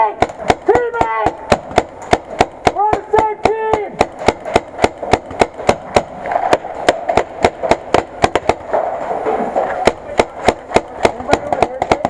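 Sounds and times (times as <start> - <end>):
paintball markers firing: 0.1 - 9.0, 9.7 - 12.0.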